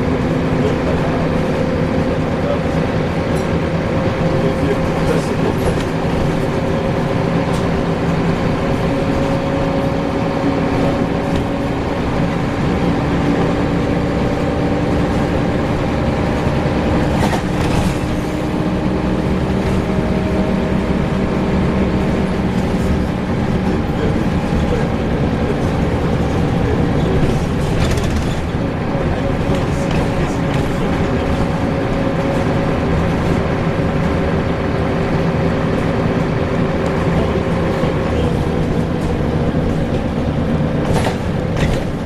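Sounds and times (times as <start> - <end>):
bus diesel engine running: 0.0 - 42.0.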